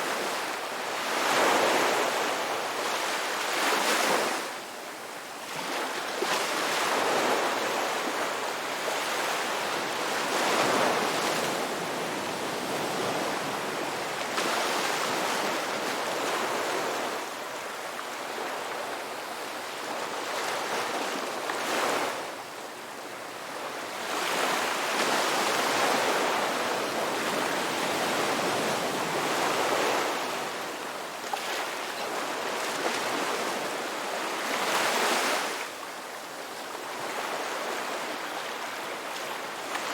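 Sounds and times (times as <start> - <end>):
waves breaking on shore: 5.4 - 22.3, 23.9 - 39.9.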